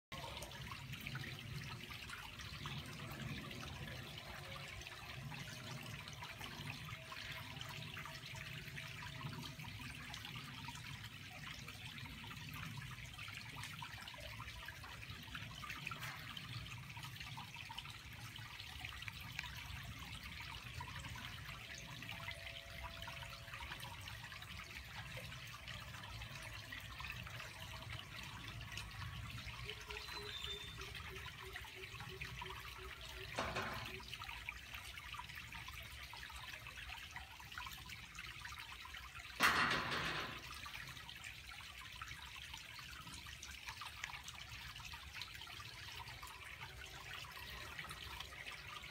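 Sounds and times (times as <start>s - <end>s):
rain dripping and trickling: 0.1s - 48.9s.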